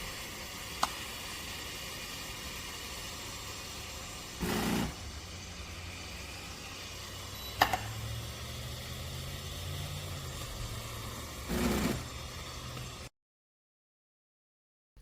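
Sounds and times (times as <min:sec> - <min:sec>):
espresso machine running: 0:00.0 - 0:13.1.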